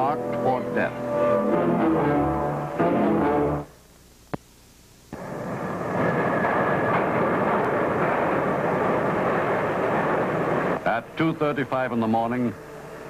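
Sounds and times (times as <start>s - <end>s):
subway train running: 0.0s - 3.8s, 5.2s - 13.0s.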